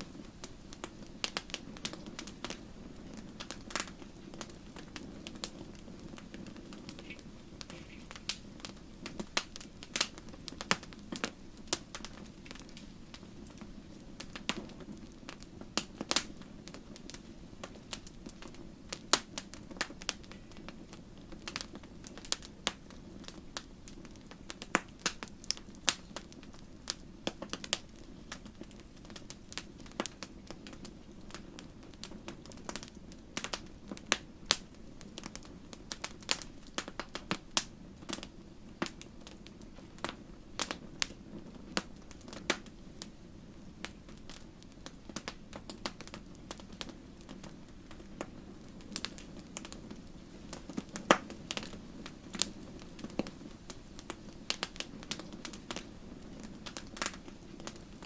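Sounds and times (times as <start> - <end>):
campfire crackling and popping: 0.0 - 58.0
low rush of flames: 0.0 - 58.0.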